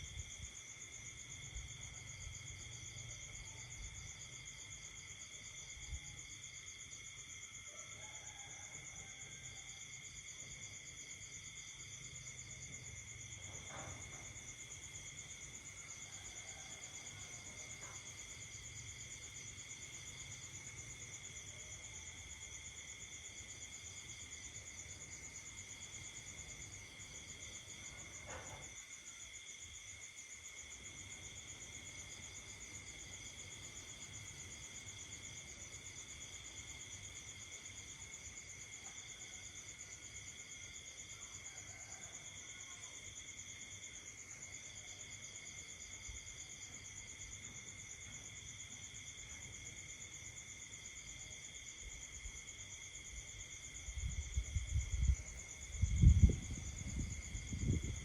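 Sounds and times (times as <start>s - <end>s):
crickets and insects trilling: 0.0s - 58.0s
frogs: 0.0s - 58.0s.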